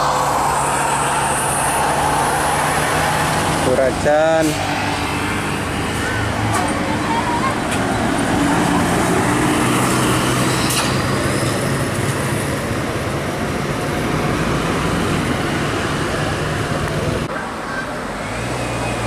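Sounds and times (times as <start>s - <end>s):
coach diesel engine running: 0.0s - 19.0s
tyre and road noise: 0.0s - 19.0s
vehicle engine: 0.0s - 19.0s.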